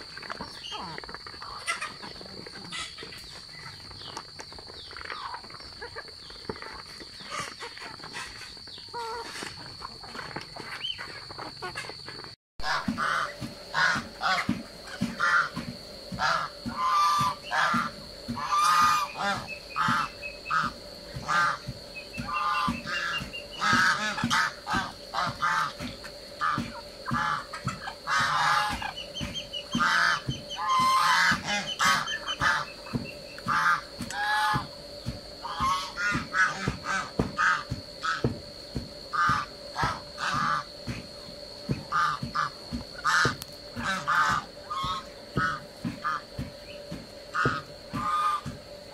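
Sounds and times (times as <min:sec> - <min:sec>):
geese honking: 0:00.0 - 0:04.2, 0:05.0 - 0:12.0, 0:12.6 - 0:38.3, 0:39.1 - 0:41.0, 0:41.7 - 0:48.5
soft flock sounds: 0:00.0 - 0:48.6.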